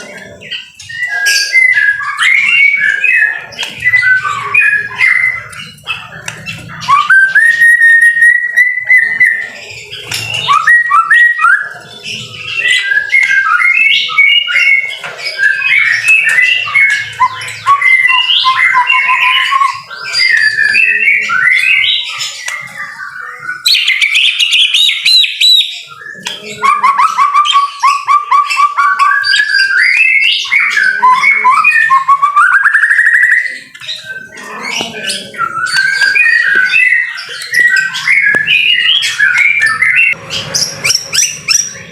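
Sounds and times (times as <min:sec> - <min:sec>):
bird singing whistles and trills: 0:00.0 - 0:41.9.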